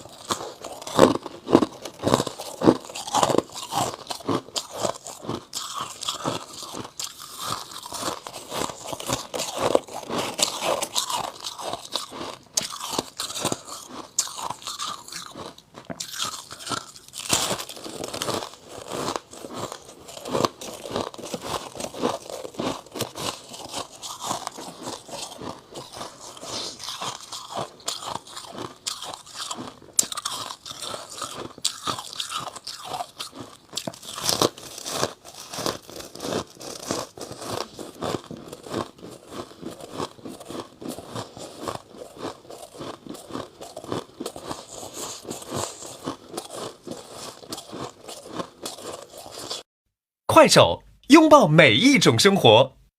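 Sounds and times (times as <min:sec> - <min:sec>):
chewing ice crunching: 0:00.0 - 0:49.7.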